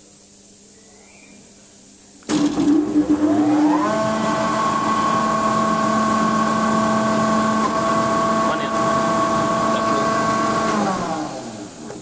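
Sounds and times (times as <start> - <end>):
air compressor starting and running: 2.3 - 12.0.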